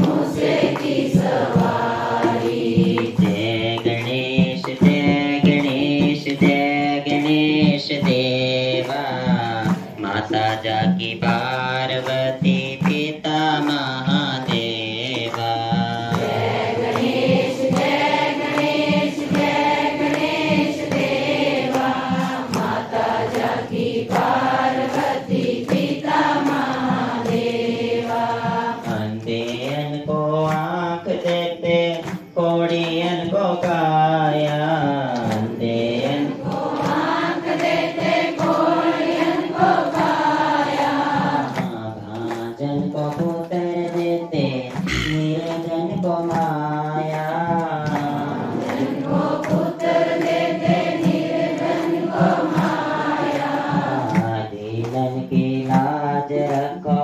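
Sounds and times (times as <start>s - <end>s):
hymn singing with wavering notes: 0.0s - 57.0s
steady percussion beat: 0.0s - 57.0s.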